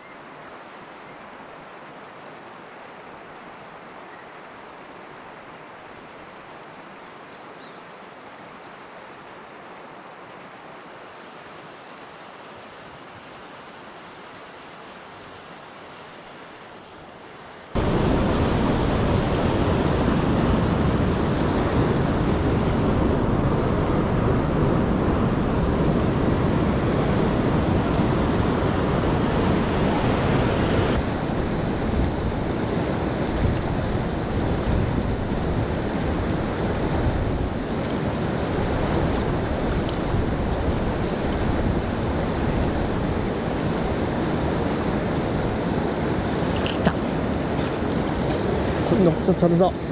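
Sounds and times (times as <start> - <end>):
river water rushing in rapids: 0.0 - 49.9.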